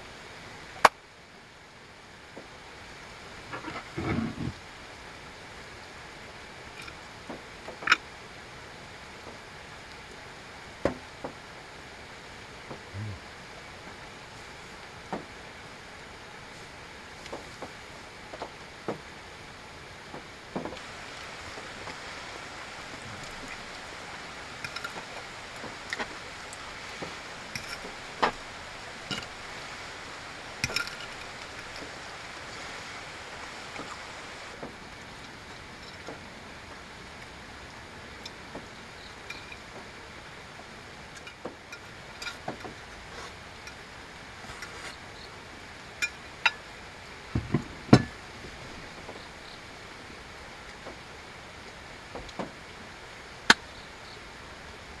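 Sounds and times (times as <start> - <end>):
light rain on car: 0.0 - 55.0.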